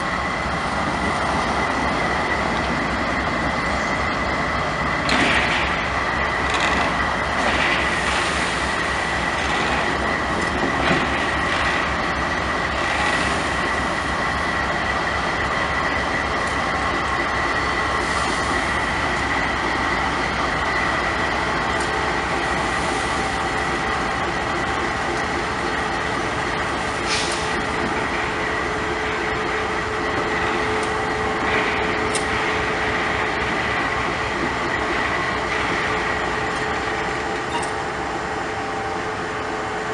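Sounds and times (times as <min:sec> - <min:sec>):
train wagons rumbling on rails: 0:00.0 - 0:39.9.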